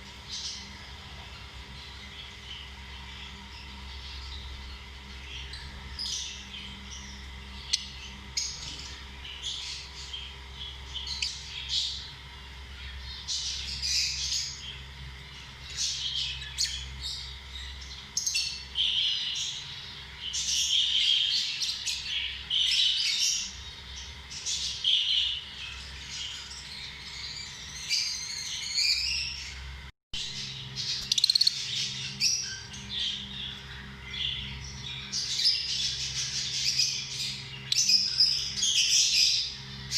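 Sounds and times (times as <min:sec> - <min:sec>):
lovebirds chirping and squawking: 0:00.2 - 0:29.6, 0:30.2 - 0:39.9.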